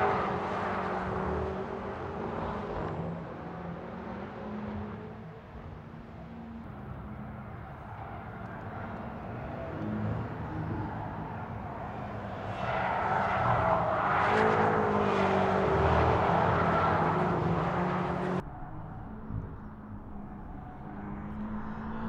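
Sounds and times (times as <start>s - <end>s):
cars driving past at speed: 0.0s - 22.0s.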